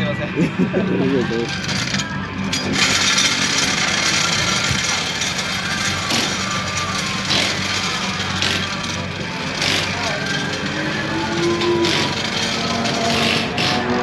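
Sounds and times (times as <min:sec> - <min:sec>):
car engine running: 0:00.4 - 0:14.0.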